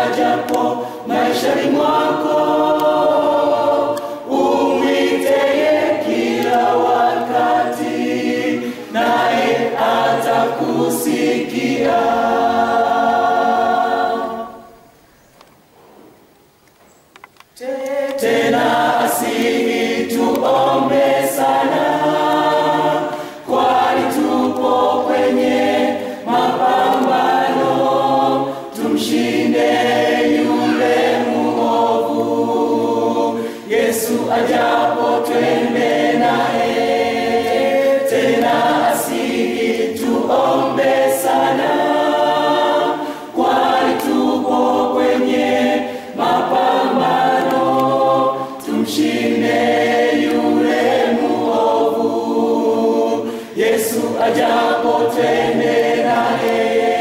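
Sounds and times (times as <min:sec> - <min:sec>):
mixed choir singing: 0:00.0 - 0:15.0, 0:17.6 - 0:57.0.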